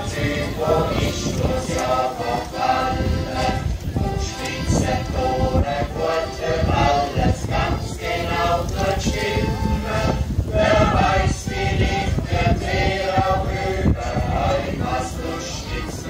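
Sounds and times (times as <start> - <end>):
accordion: 0.0 - 16.0
group of voices singing: 0.0 - 16.0.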